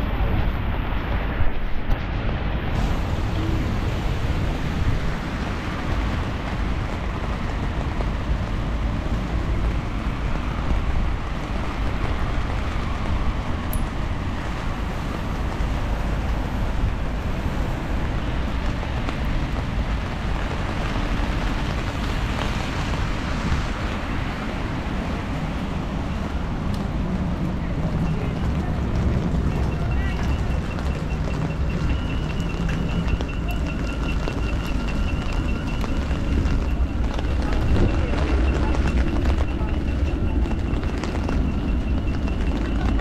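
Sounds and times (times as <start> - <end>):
rainy city street ambience: 0.0 - 43.0.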